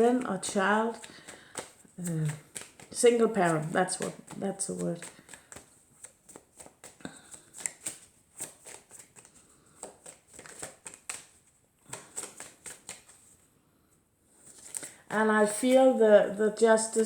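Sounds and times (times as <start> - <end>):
cards being shuffled: 0.0 - 13.4, 14.4 - 16.0.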